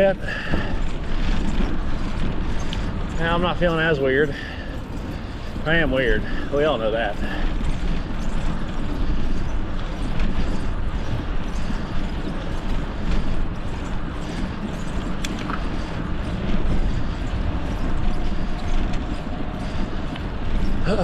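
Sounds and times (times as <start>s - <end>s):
road noise: 0.0s - 21.0s
wind rush on microphone: 0.0s - 21.0s.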